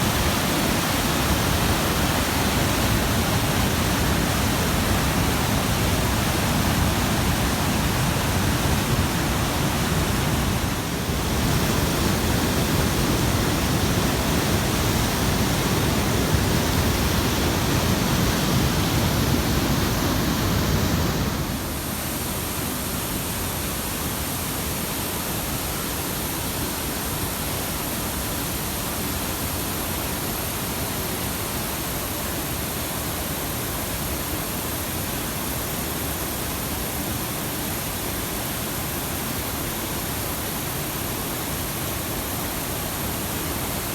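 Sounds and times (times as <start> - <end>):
water rushing over cascades: 0.0 - 43.9.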